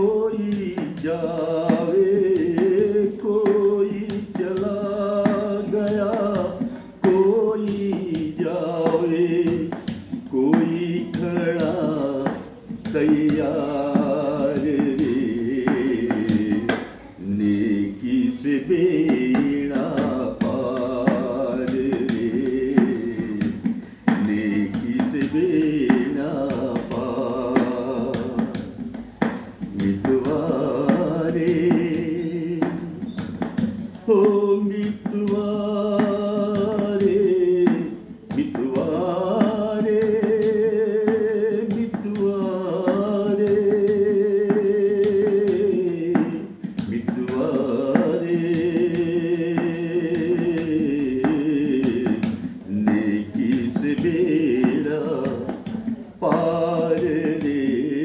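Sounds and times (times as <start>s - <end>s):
older man singing slowly: 0.0s - 58.0s.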